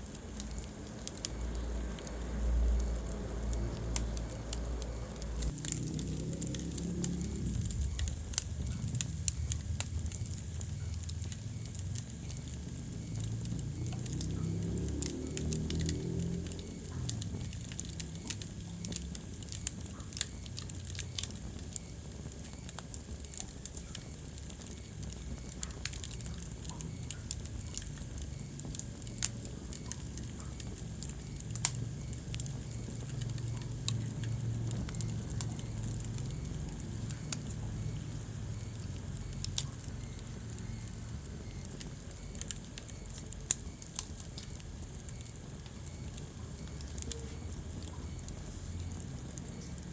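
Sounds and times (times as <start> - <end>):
low rumble of flames: 0.0 - 49.9
wood fire crackling and popping: 0.0 - 49.9.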